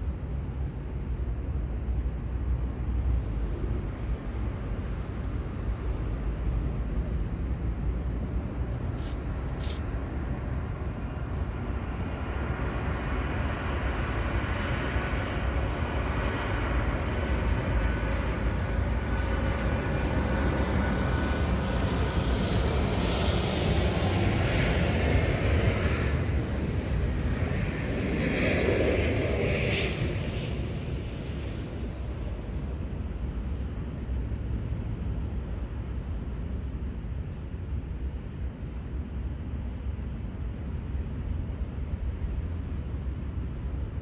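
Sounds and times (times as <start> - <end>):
airplane flying over: 0.0 - 44.0.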